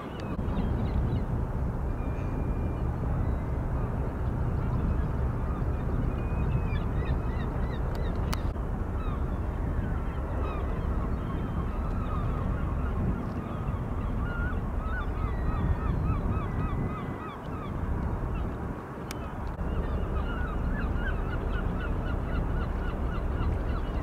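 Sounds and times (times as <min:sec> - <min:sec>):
steady low rumble: 0:00.1 - 0:24.0.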